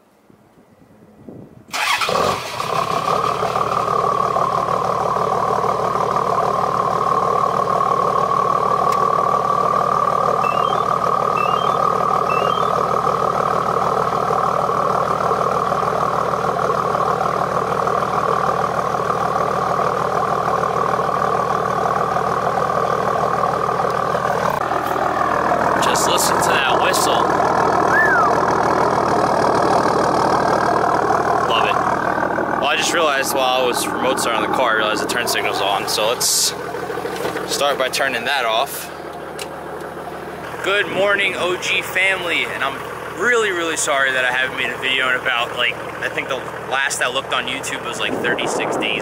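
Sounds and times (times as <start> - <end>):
diesel engine cranking and idling: 0.8 - 49.0.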